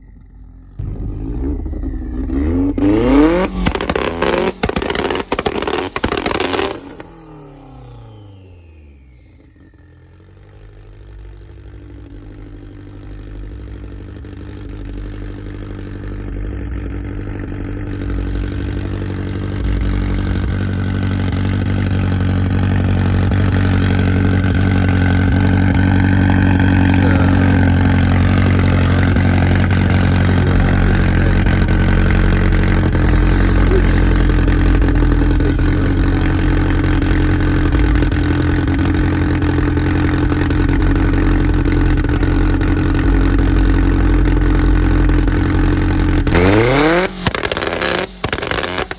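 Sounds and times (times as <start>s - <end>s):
vehicle engine idling: 0.0s - 48.9s.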